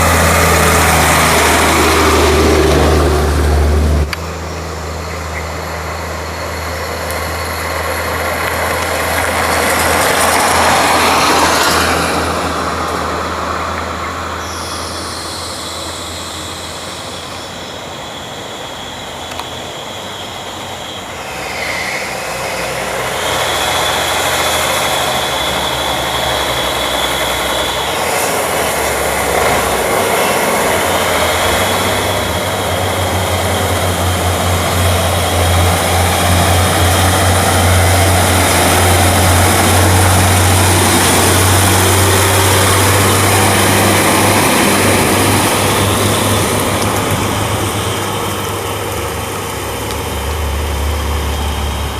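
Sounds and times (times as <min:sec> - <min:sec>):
diesel truck engine droning: 0:00.0 - 0:51.9.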